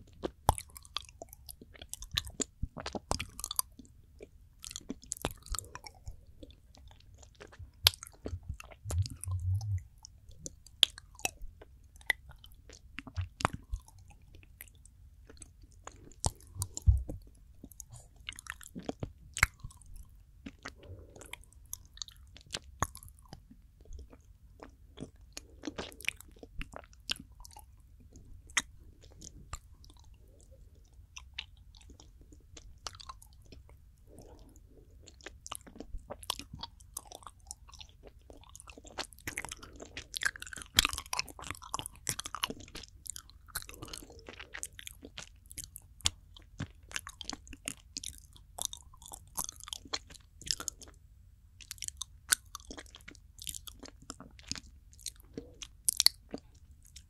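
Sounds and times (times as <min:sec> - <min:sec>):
chocolate chewing mouth sounds: 0:00.0 - 0:57.0.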